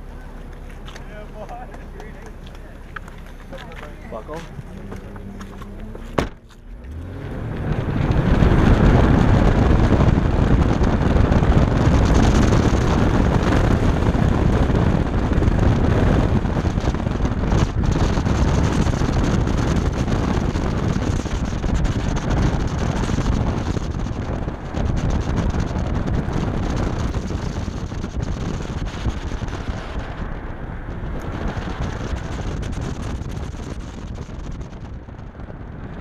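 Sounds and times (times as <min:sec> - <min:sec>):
car engine revving: 0:00.0 - 0:36.0
wind buffeting microphone: 0:00.0 - 0:36.0.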